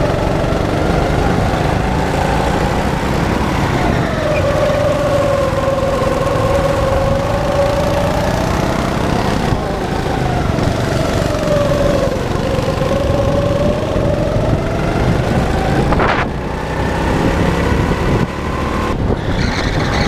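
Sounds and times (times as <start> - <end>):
go-kart engine accelerating: 0.0 - 20.0.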